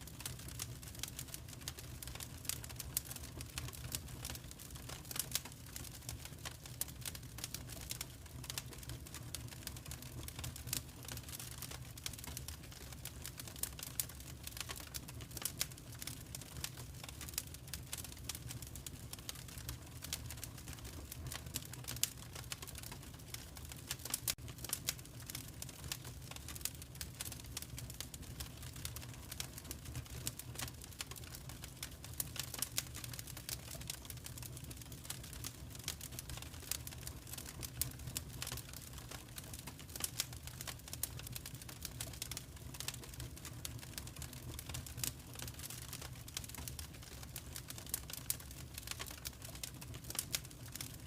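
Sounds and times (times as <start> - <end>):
low rumble of flames: 0.0 - 51.0
wood fire crackling: 0.0 - 51.0.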